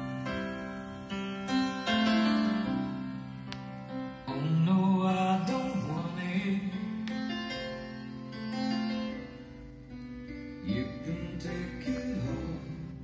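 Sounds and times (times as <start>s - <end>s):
song with guitar on loudspeakers: 0.0s - 13.0s.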